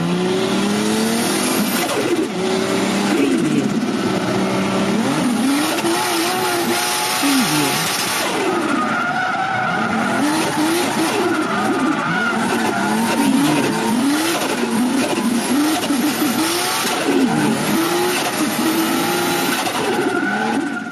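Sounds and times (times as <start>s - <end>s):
race car engine revving: 0.0s - 20.9s.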